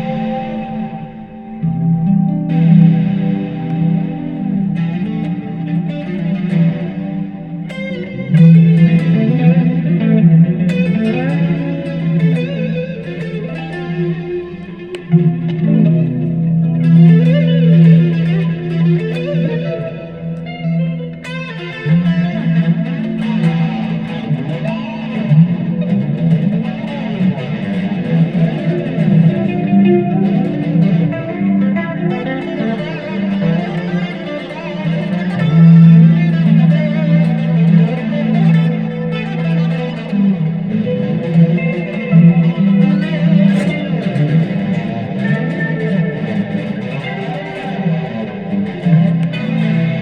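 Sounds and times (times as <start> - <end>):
electric guitar fast notes: 0.0 - 50.0.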